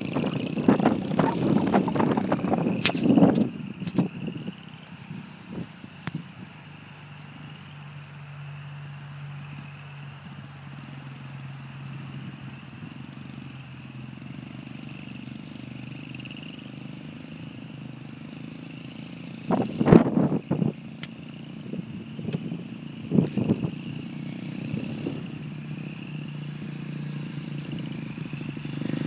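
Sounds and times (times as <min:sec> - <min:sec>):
distant dirt bike engine: 0:00.0 - 0:29.0.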